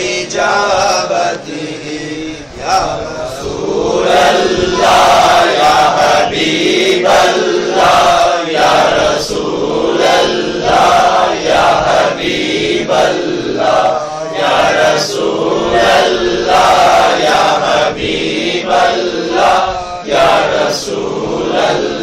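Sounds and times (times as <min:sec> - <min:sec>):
crowd chanting in unison: 0:00.0 - 0:22.0.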